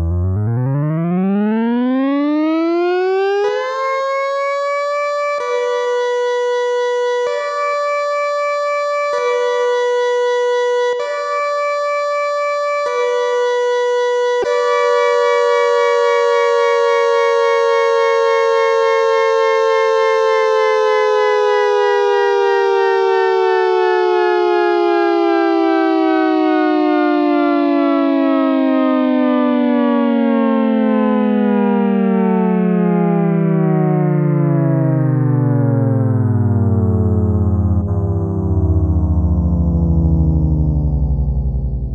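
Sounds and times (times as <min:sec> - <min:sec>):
two-note tornado siren: 0:00.0 - 0:41.9.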